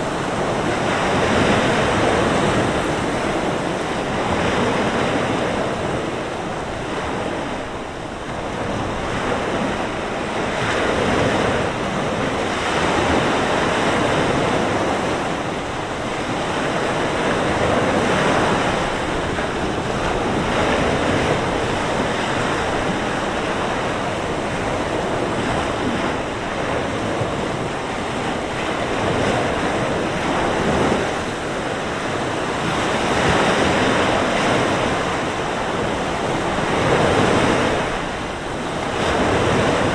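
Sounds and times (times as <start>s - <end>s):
waves breaking on shore: 0.0s - 39.9s
wind blowing: 0.0s - 39.9s.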